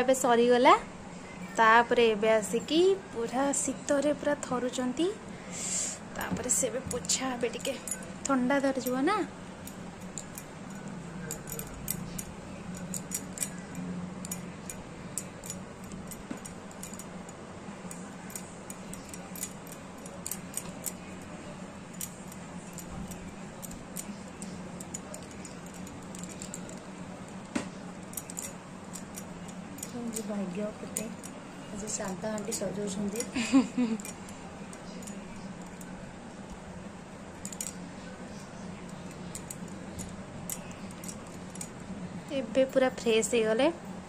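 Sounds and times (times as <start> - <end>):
steady low hum: 0.0 - 44.0
light metallic clinks: 6.1 - 44.0.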